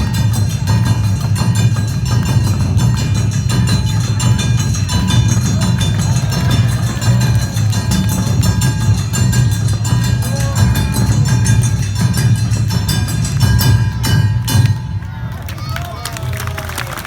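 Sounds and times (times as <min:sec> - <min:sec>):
wavering melody lines: 0:00.0 - 0:14.2
gong clanging: 0:00.0 - 0:15.1
taiko drums beating: 0:00.0 - 0:15.1.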